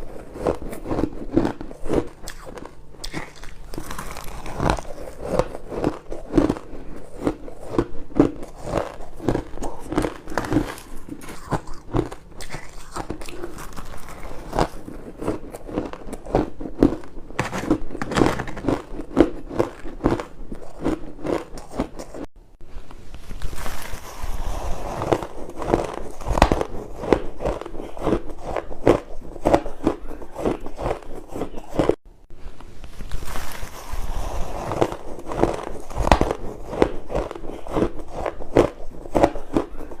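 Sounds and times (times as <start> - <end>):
chewing crunchy ice: 0.0 - 22.3, 23.5 - 32.0, 33.2 - 40.0.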